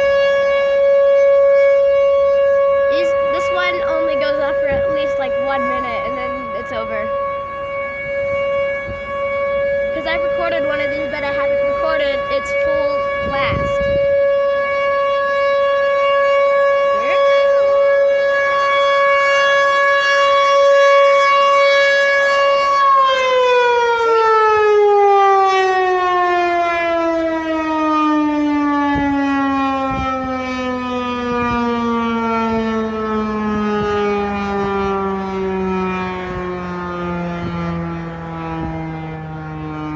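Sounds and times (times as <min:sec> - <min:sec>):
warning siren winding down: 0:00.0 - 0:39.9.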